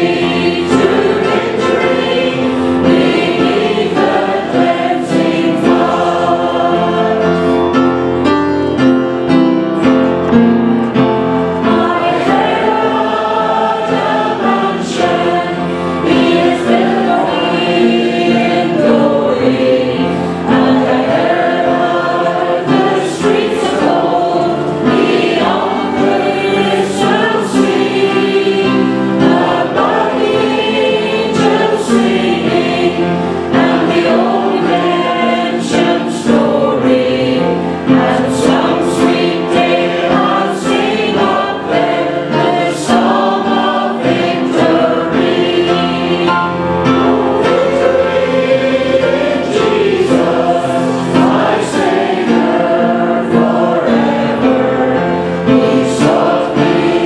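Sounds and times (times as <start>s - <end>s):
congregation singing a hymn: 0.0s - 57.0s
keyboard accompaniment: 0.0s - 57.0s.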